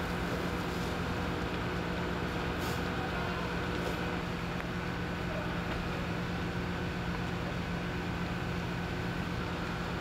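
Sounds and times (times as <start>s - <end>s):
fire engine engine droning: 0.0s - 10.0s.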